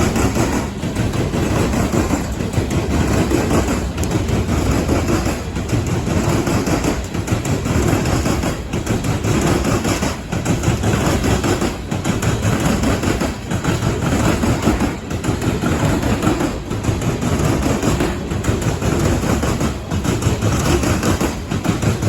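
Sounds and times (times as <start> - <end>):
train cars rolling on steel wheels: 0.0 - 22.0.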